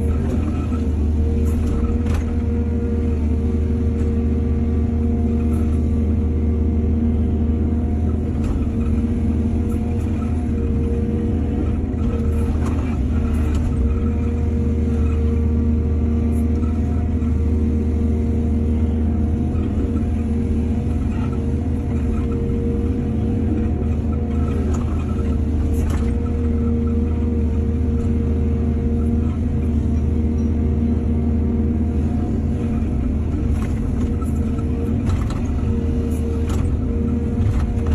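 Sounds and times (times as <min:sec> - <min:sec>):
heavy diesel engine droning: 0:00.0 - 0:37.9.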